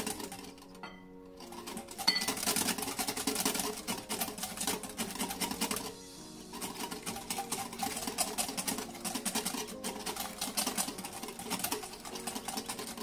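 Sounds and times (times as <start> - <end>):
wire whisk beating in glass bowl: 0.0 - 13.0.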